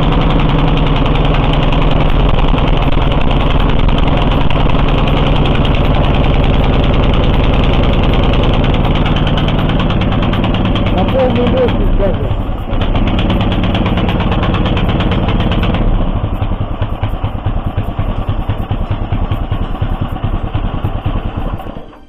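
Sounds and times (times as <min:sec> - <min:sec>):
single-cylinder engine idling: 0:00.0 - 0:22.0.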